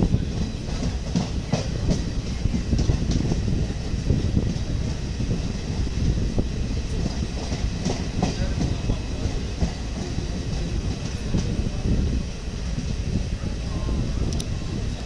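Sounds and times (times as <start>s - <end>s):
train coaches rumbling: 0.0s - 15.0s.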